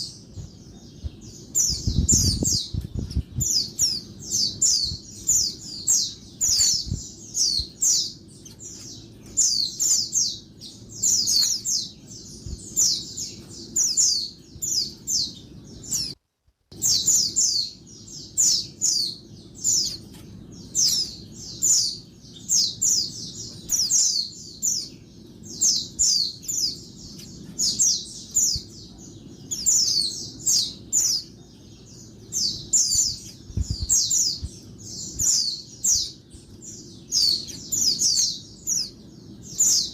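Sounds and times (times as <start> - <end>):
bird chirping high and thin: 0.0 - 16.2, 16.8 - 39.9.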